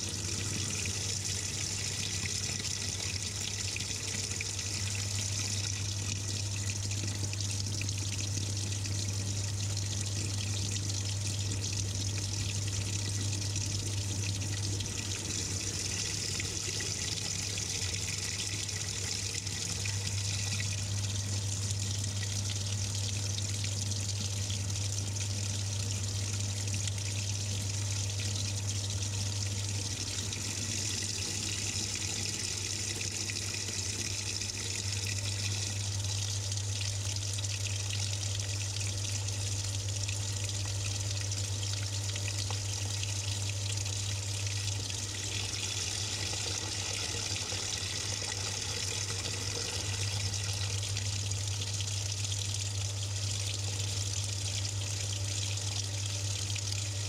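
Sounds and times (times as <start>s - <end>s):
low machine hum: 0.0s - 57.0s
water splashing in washing machine: 0.0s - 57.0s.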